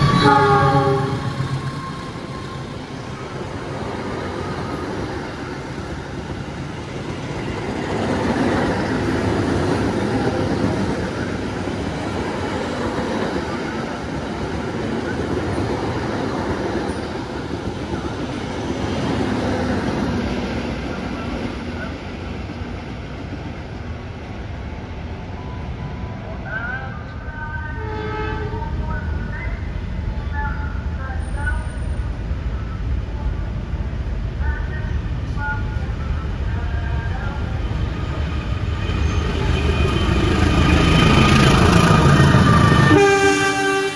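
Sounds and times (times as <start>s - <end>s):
train wheels rumbling on rail: 0.0s - 25.3s, 27.0s - 43.9s.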